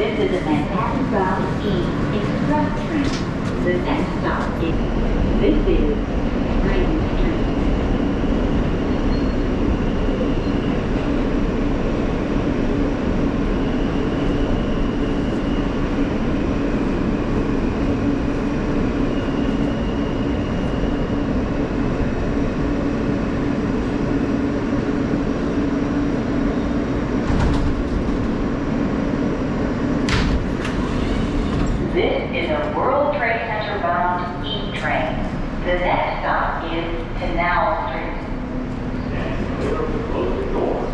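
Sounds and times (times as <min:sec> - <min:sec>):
subway car rumble: 0:00.0 - 0:40.9.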